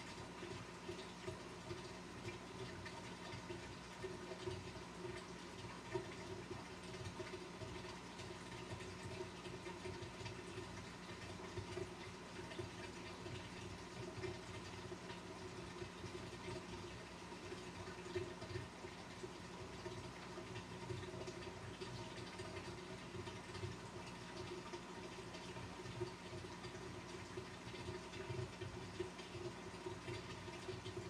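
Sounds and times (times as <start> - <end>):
aquarium pump humming: 0.0 - 31.0
water trickling and burbling: 0.0 - 31.0.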